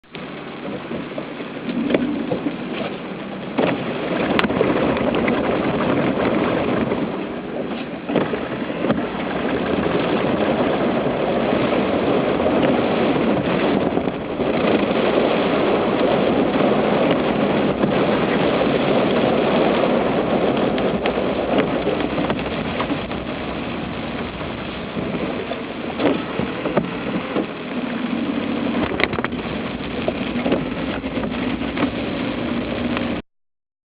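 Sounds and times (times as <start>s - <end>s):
water splashing around car: 0.0s - 33.2s.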